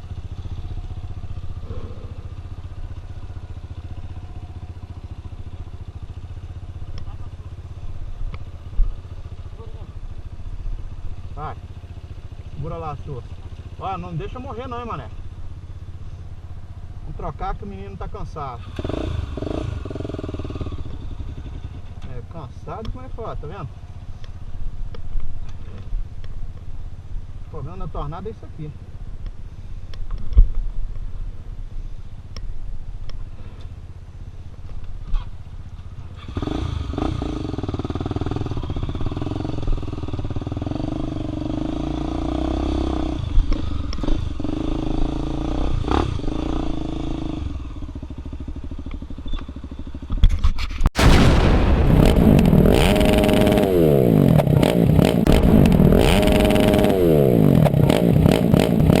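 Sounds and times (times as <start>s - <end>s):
motorcycle engine revving: 0.0s - 24.2s, 35.0s - 50.3s, 51.0s - 59.0s.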